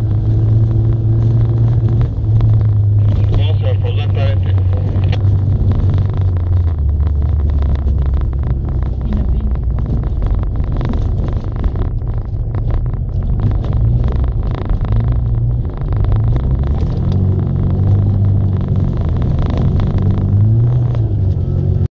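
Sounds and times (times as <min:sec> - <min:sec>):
car engine under load: 0:00.0 - 0:21.9.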